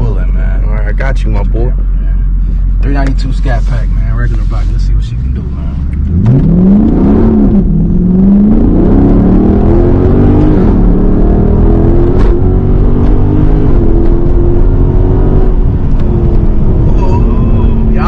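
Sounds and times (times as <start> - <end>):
car engine accelerating with upshifts: 0.0 - 18.0.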